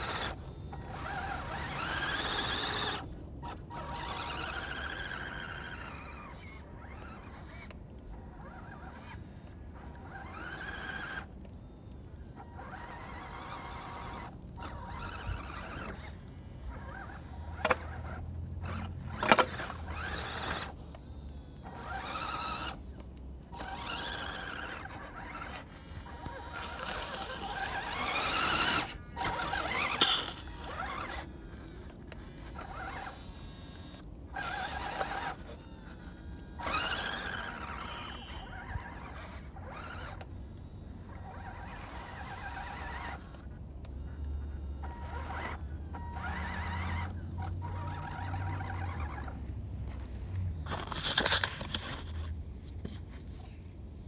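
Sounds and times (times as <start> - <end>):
toy electric motor whining: 0.0 - 52.3.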